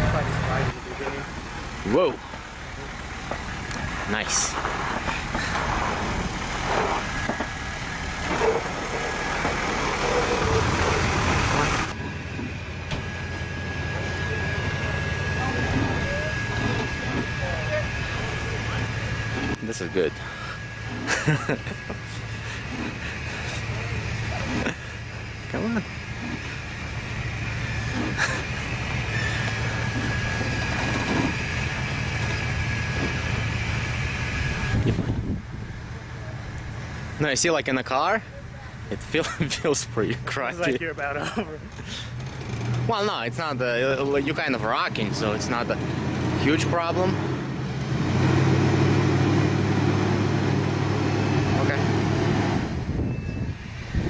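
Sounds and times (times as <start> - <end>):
steady high whine: 0.0 - 54.0
truck engine rumble: 0.0 - 54.0.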